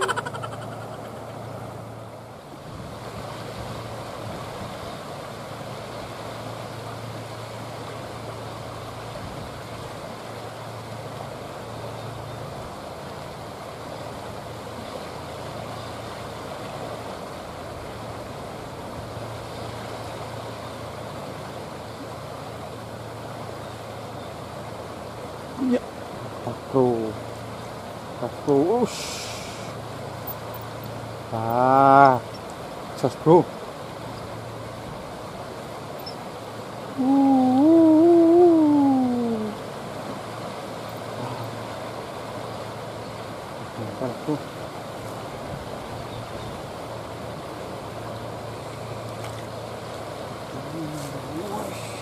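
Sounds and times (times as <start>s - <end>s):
flowing river water: 0.0s - 52.0s.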